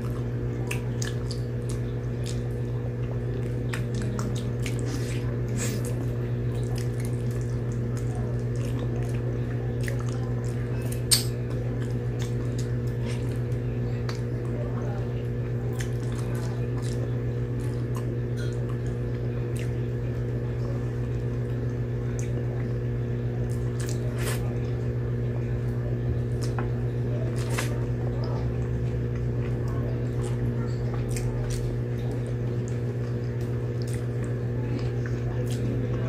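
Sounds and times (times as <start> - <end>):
wet chewing and lip-smacking: 0.0 - 14.6, 15.7 - 19.9, 23.4 - 24.8, 26.3 - 36.0
low steady hum: 0.0 - 36.0.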